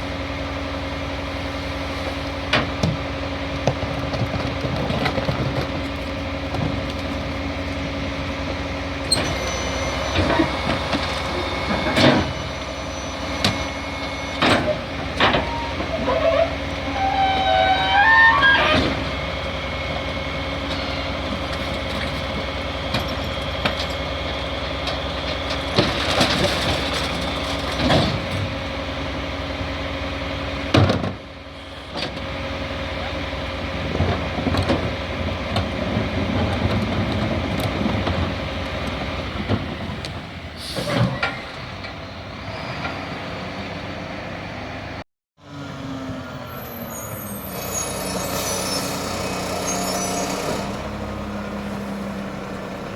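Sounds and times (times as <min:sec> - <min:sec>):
garbage truck engine running: 0:00.0 - 0:52.9.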